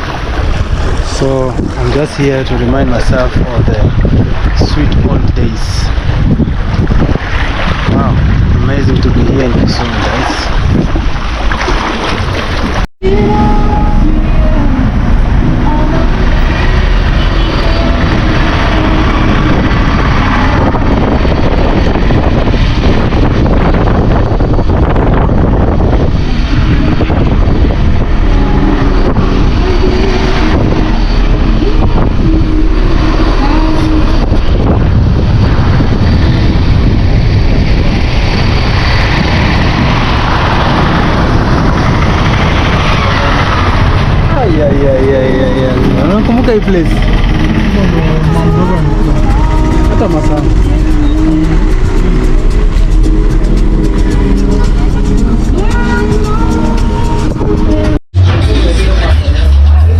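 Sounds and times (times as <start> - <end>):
wind buffeting microphone: 0.0 - 58.8
road and engine noise: 0.0 - 59.9.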